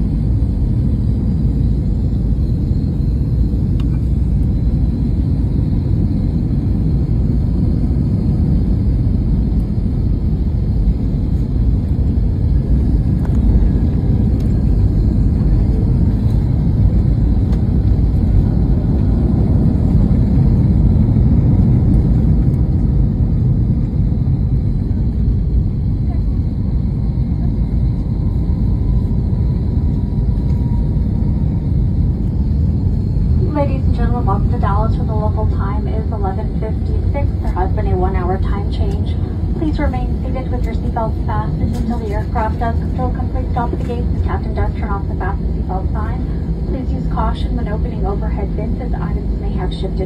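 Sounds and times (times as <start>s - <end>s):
jet cabin low rumble: 0.0s - 50.0s.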